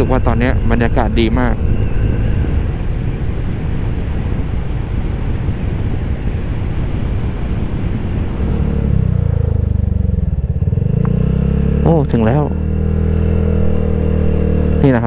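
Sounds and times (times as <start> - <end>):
wind rumble on microphone: 0.0 - 15.0
scooter engine: 2.4 - 15.0.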